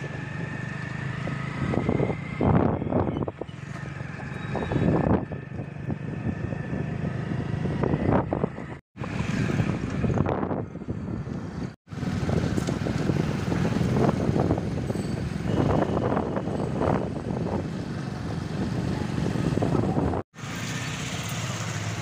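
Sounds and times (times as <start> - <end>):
passing vehicles: 0.0 - 22.0.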